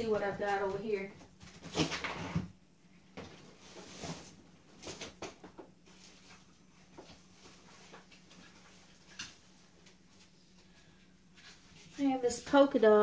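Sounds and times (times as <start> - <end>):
rustles and clicks of rummaging: 0.0 - 12.3
faint room hum: 0.0 - 13.0.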